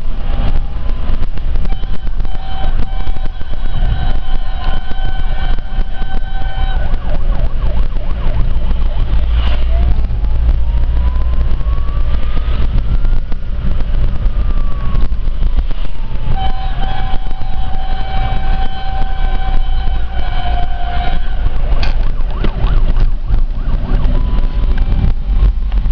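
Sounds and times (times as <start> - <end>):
wind buffeting microphone: 0.0 - 25.9
fire truck siren wailing: 0.1 - 25.9.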